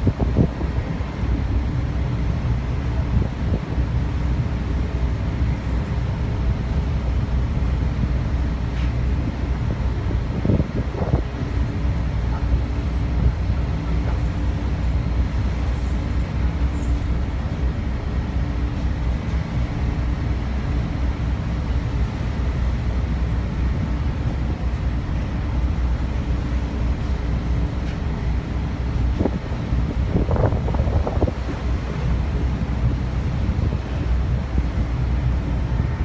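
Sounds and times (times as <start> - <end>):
ferry engines drone: 0.0 - 36.0
sea rushing past hull: 0.0 - 36.0
wind: 0.0 - 36.0.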